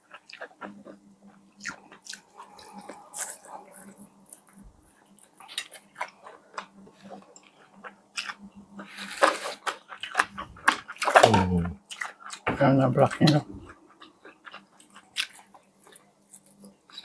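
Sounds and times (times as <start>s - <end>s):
chewing and crunching food: 0.0s - 17.0s.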